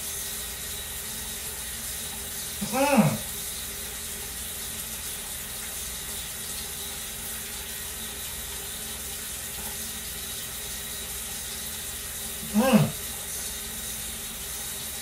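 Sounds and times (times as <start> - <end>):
tap water running into sink: 0.0 - 15.0.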